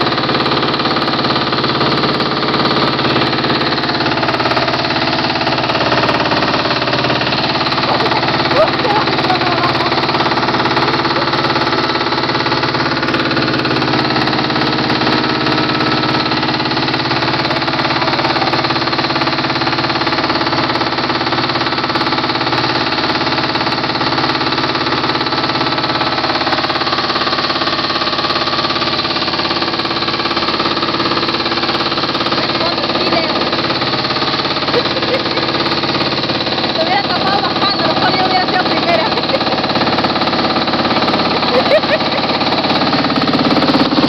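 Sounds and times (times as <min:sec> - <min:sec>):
motorboat engine running: 0:00.0 - 0:44.0.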